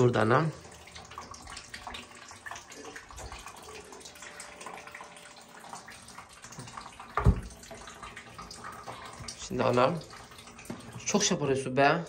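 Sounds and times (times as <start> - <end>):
liquid trickling and dripping: 0.0 - 12.0.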